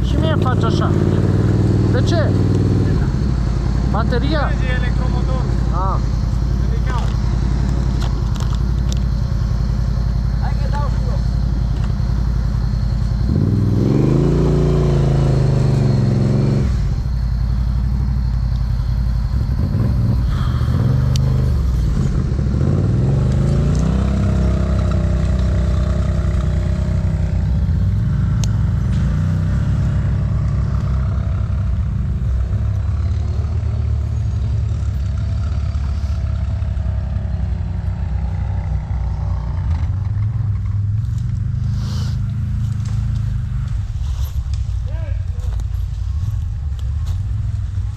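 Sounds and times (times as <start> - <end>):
atv engine revving: 0.0 - 44.6.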